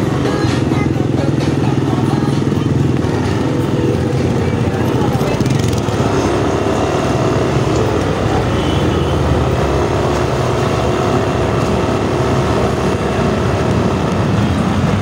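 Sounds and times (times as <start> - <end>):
low rumble of riding noise: 0.0 - 15.0
scooter engine running: 0.0 - 15.0.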